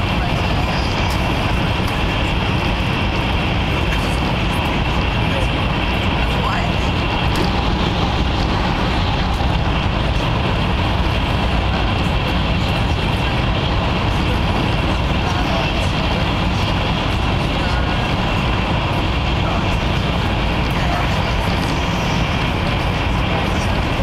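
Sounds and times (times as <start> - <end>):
train cabin rumble and hiss: 0.0 - 24.0.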